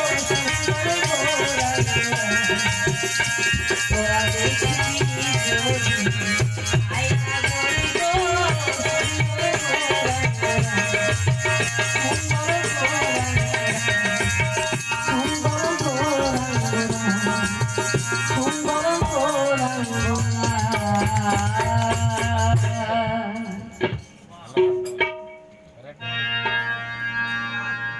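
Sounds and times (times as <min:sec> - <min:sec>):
person singing: 0:00.0 - 0:23.9
drum: 0:00.0 - 0:25.6
rattle percussion: 0:00.0 - 0:25.8.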